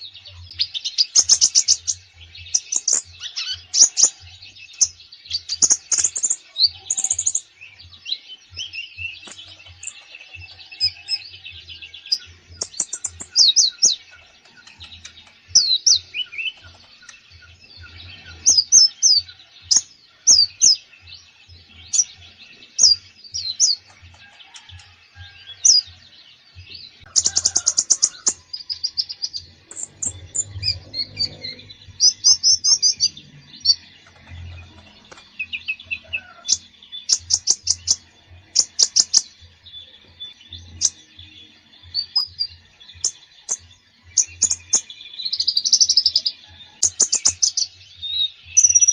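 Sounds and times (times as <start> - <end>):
songbird chirps whistles and trills: 0.0 - 48.9.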